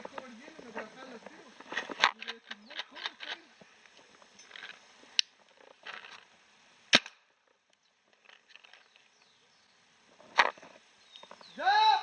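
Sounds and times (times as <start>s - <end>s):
rustle of movement: 0.0s - 11.7s.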